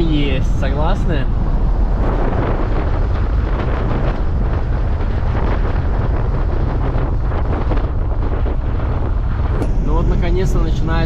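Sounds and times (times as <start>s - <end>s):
tyres and road rumble: 0.0s - 11.0s
wind buffeting microphone: 0.0s - 11.0s
wind rushing through car window: 0.0s - 11.0s.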